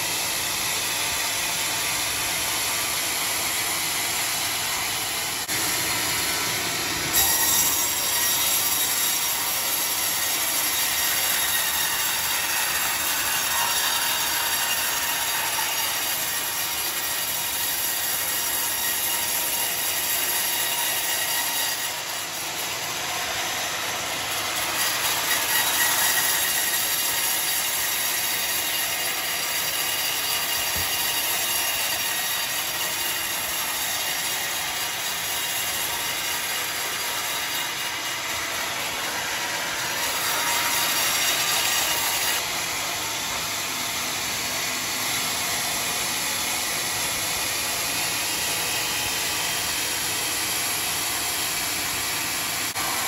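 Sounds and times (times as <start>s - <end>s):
bandsaw cutting log: 0.0s - 53.0s.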